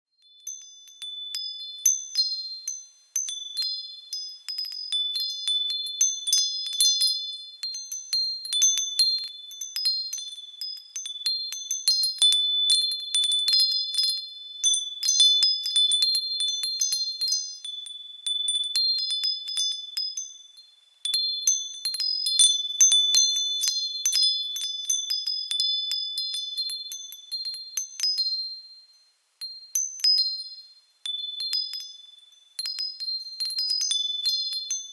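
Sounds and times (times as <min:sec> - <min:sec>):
small high-pitched bells ringing: 0:00.0 - 0:34.9.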